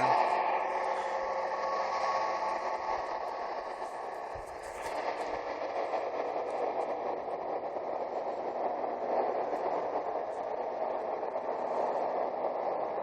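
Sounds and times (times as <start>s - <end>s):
steady drone from the sky: 0.0s - 13.0s.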